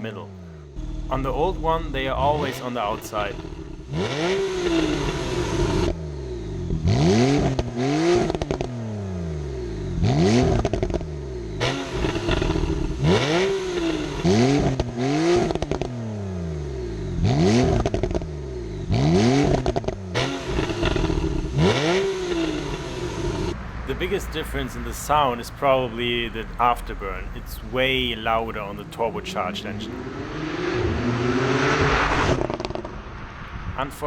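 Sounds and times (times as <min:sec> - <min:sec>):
sports car engine revving: 0:00.4 - 0:34.0
exhaust crackles and pops: 0:00.8 - 0:06.0, 0:06.6 - 0:08.8, 0:10.0 - 0:16.0, 0:17.2 - 0:18.3, 0:18.9 - 0:30.0, 0:30.6 - 0:34.0.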